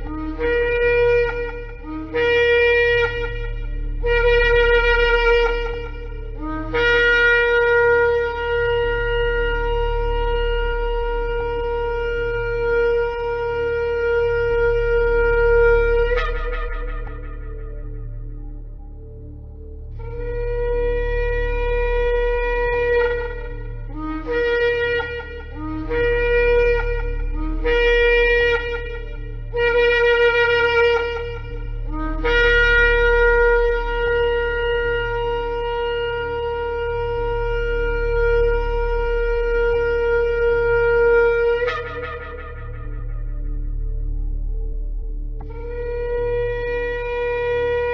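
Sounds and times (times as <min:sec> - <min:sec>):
ram's horn blasts: 0:00.0 - 0:47.9
steady low drone: 0:00.0 - 0:47.9.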